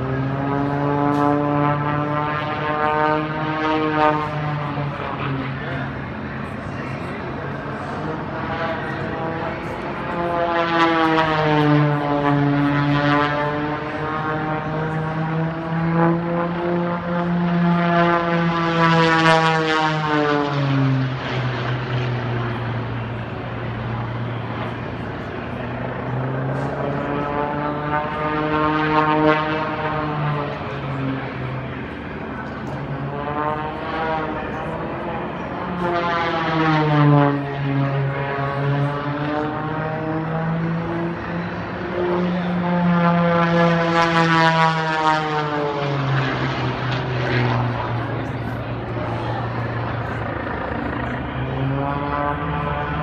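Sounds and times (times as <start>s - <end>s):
plane engine and propeller droning: 0.0s - 53.0s.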